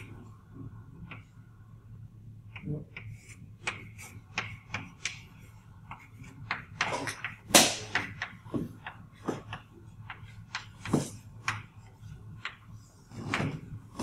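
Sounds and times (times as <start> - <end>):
chalk tapping and scratching: 2.6 - 14.0.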